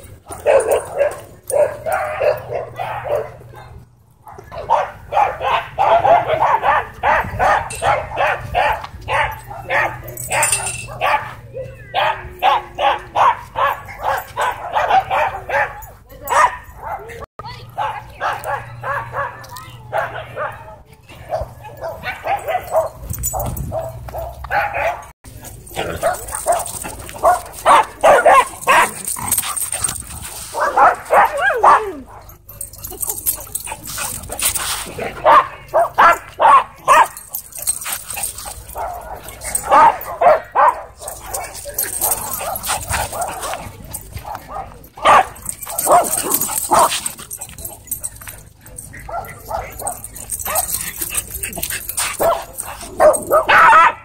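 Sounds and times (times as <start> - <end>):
dog barking: 0.3 - 25.1, 25.8 - 29.7, 30.5 - 32.4, 33.6 - 48.2, 48.8 - 54.0.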